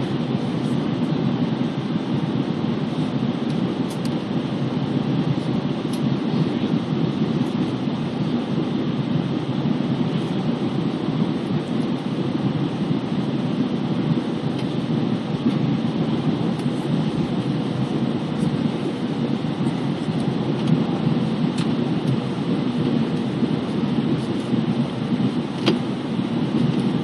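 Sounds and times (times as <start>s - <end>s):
aircraft cabin engine drone: 0.0s - 27.0s.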